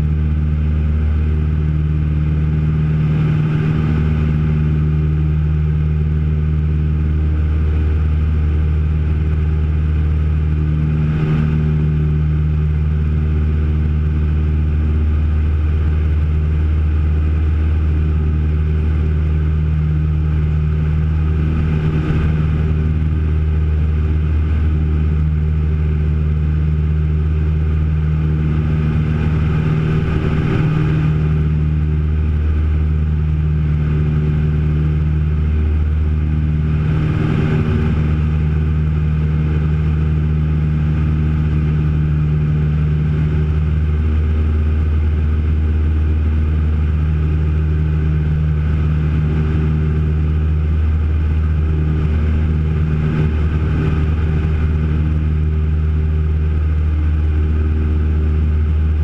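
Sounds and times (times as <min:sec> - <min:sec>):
propeller plane engines droning: 0:00.0 - 0:59.0.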